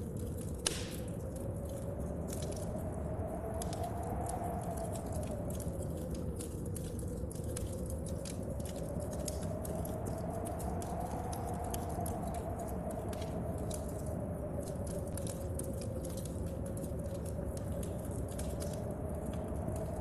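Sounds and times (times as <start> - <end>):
fire crackling: 0.0 - 20.0
wind howling: 0.0 - 20.0.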